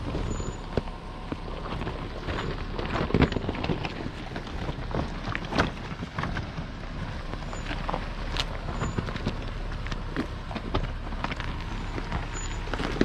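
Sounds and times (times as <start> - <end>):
vehicle moving slowly: 0.0 - 13.0.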